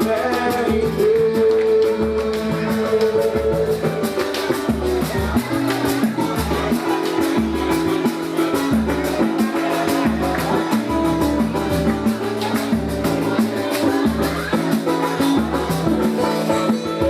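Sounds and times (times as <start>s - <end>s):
plucked strings: 0.0s - 17.0s
samba band playing: 0.0s - 17.0s.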